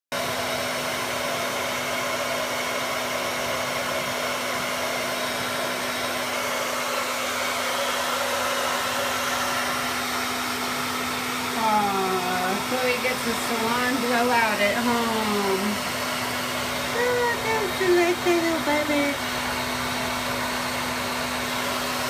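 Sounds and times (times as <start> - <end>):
hair dryer blowing: 0.1 - 22.0.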